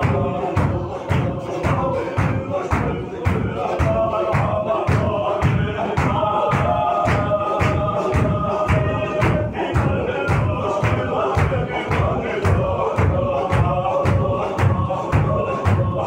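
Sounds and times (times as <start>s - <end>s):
men chanting in unison: 0.0s - 16.0s
stamping and clapping beat: 0.0s - 16.0s.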